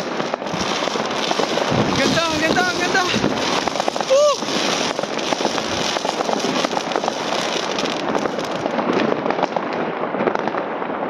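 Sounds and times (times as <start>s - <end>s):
fireworks and firecrackers popping: 0.0s - 11.0s.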